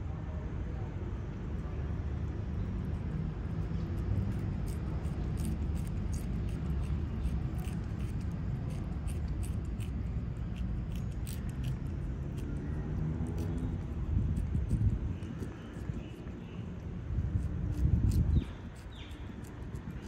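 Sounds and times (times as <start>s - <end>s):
low rumble: 1.5s - 20.0s
cat licking: 2.9s - 16.5s, 17.2s - 20.0s.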